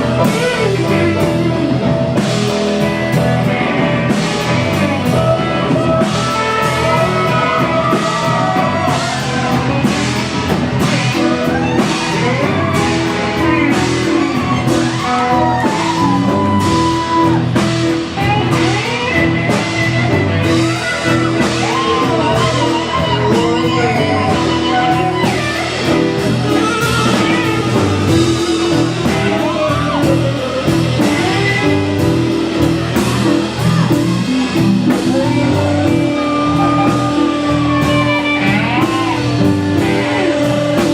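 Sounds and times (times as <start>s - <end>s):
drums: 0.0s - 40.9s
electric guitar: 0.0s - 40.9s
person singing: 0.0s - 40.9s.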